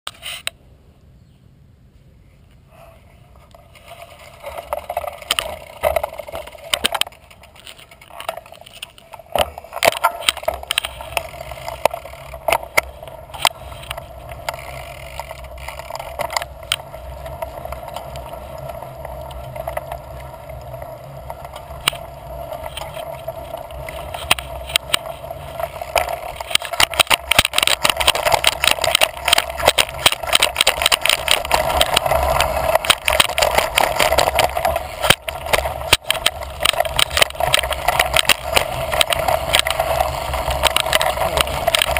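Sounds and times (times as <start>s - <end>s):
tyre and wind noise: 0.1s - 41.9s
bike clicks and rattles: 3.4s - 41.9s.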